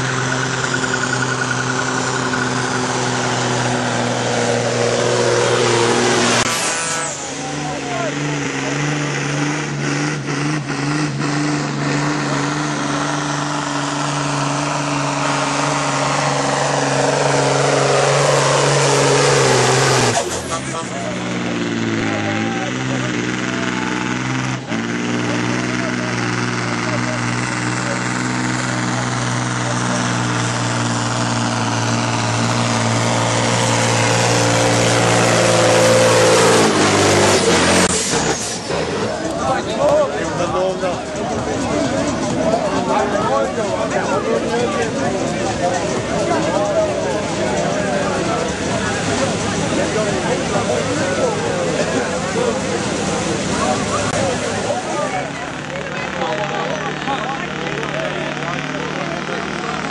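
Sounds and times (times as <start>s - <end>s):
diesel truck engine at high revs: 0.0s - 59.9s.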